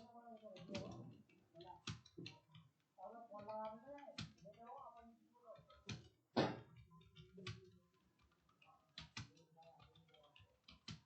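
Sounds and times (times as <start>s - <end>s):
computer keyboard typing: 0.0s - 11.0s.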